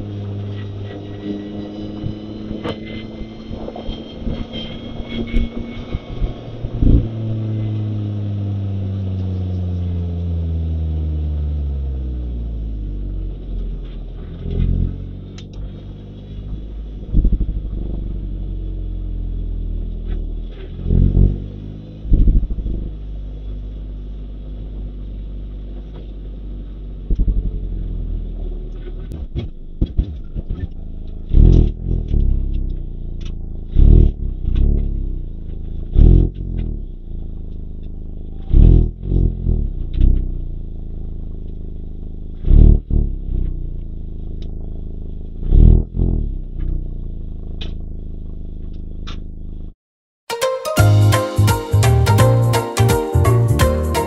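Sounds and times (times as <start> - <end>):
car engine revving down: 0.0 - 49.8.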